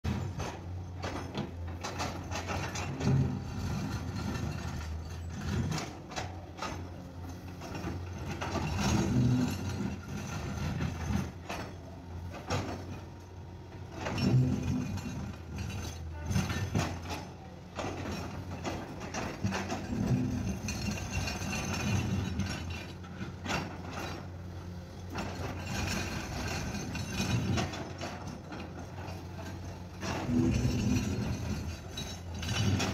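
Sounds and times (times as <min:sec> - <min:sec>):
excavator diesel engine: 0:00.0 - 0:32.9.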